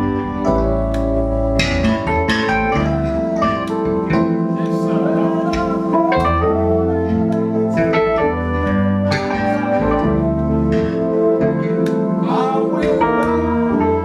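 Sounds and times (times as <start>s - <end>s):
bass line: 0.0s - 14.0s
keyboard chords: 0.0s - 14.0s
live band playing: 0.0s - 14.0s.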